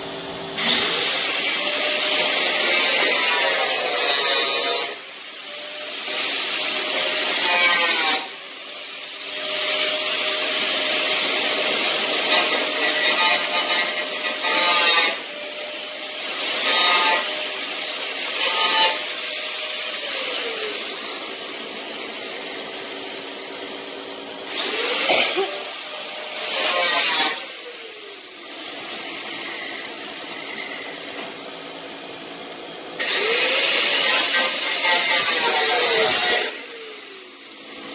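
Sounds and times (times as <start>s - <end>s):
cut-off tool whining: 0.0s - 37.9s.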